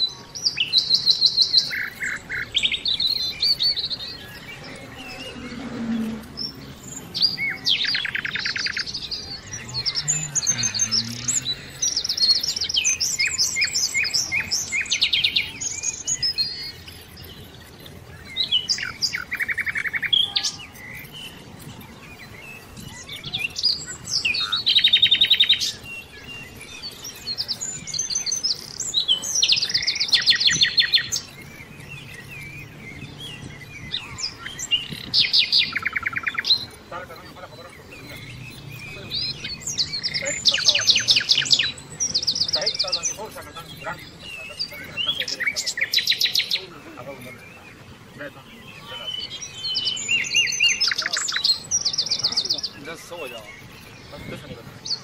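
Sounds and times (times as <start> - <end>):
birds chirping in rapid trills: 0.0 - 55.0.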